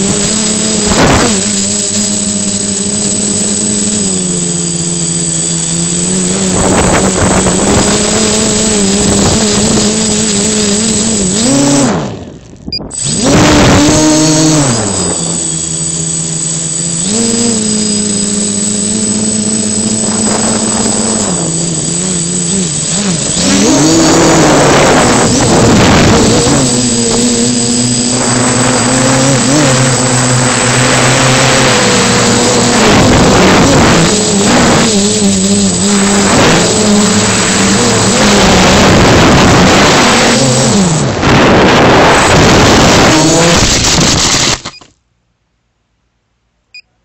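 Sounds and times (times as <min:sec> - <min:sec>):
drone motors and propellers whining: 0:00.0 - 0:45.0.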